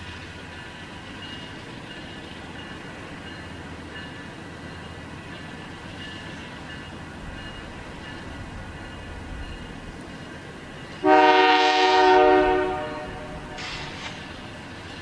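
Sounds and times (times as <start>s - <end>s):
train rumbling: 0.0s - 15.0s
crossing bell ringing: 0.5s - 13.8s.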